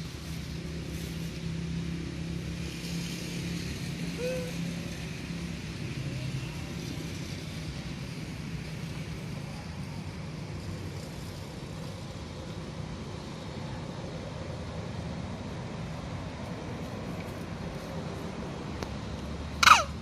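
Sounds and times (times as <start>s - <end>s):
low engine hum: 0.0s - 20.0s
outdoor noise: 0.0s - 20.0s.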